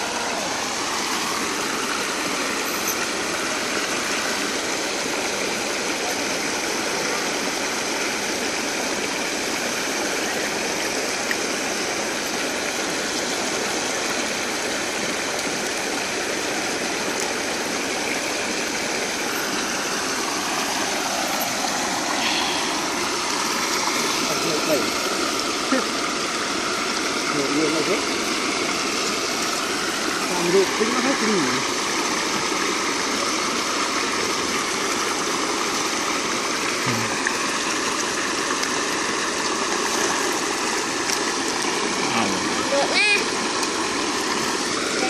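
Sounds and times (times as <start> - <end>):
water rushing over weir: 0.0 - 45.0.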